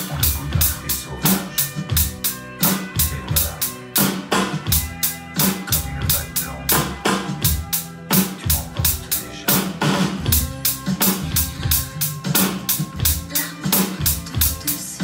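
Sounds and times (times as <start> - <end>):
backing music track: 0.0 - 15.0
electronic drum kick and snare: 0.0 - 15.0.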